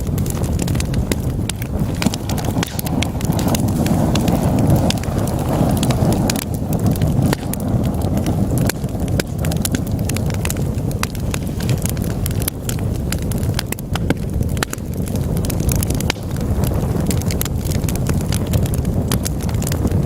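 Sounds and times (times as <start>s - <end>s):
fire crackles and pops: 0.0s - 20.0s
fire flames rumbling: 0.0s - 20.0s.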